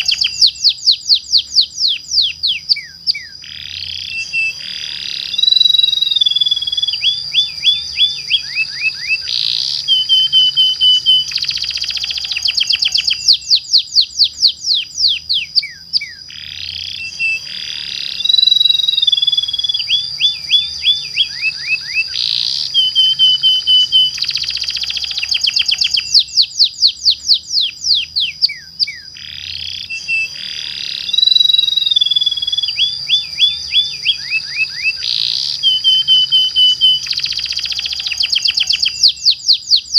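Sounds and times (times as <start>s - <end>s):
canary singing trills: 0.0s - 39.9s
high whistle-like tone: 4.0s - 16.2s, 16.9s - 39.9s.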